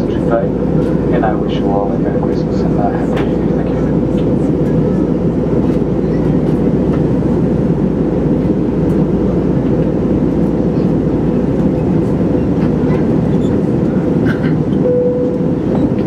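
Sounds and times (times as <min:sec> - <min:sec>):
airliner cabin engine drone: 0:00.0 - 0:16.0.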